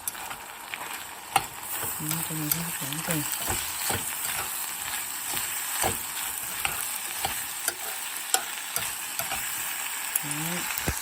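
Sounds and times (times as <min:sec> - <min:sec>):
utensil clicking against pan: 0:00.0 - 0:00.4, 0:01.3 - 0:10.2
sauce sizzling in a pan: 0:00.0 - 0:11.0.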